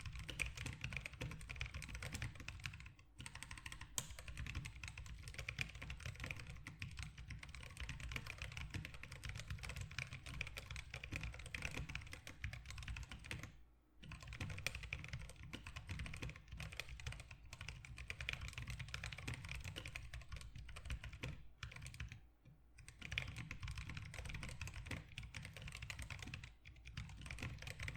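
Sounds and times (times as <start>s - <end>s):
mechanical keyboard typing: 0.0s - 22.2s, 22.8s - 27.9s.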